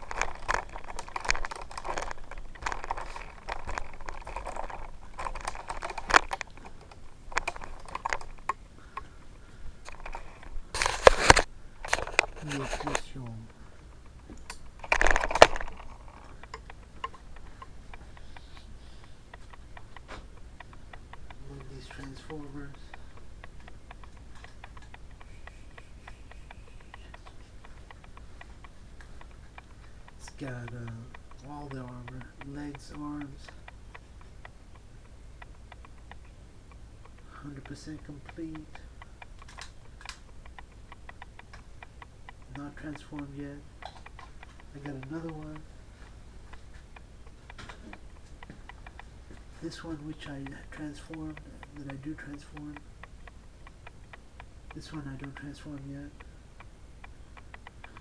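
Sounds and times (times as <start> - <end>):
handling clicks and rustling: 0.0 - 58.0
light regular ticking: 0.0 - 58.0
low steady hum: 0.0 - 58.0.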